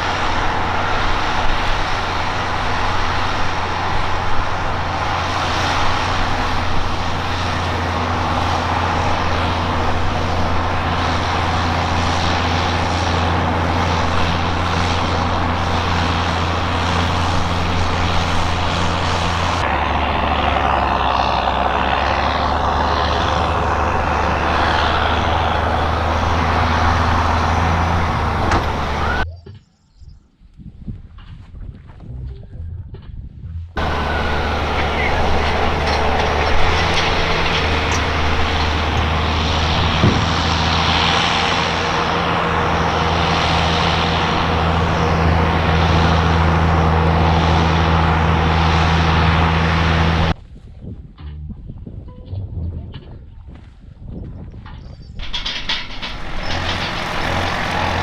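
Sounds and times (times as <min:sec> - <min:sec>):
farm machinery engine humming: 0:00.0 - 0:29.3, 0:33.8 - 0:50.4, 0:55.2 - 0:58.0.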